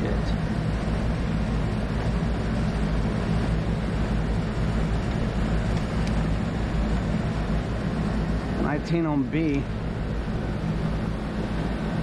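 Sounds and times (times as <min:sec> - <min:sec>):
compressor hum: 0:00.0 - 0:12.0
condenser fans rushing: 0:00.0 - 0:12.0.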